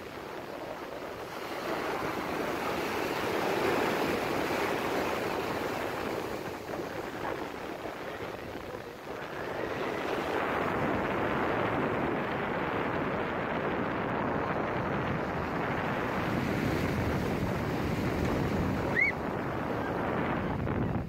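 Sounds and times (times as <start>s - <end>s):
rough sea surf: 0.0s - 21.0s
wind buffeting microphone: 0.0s - 21.0s.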